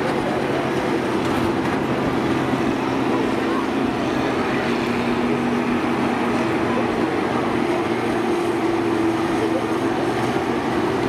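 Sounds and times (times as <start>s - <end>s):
combine engines running hard: 0.0s - 11.0s.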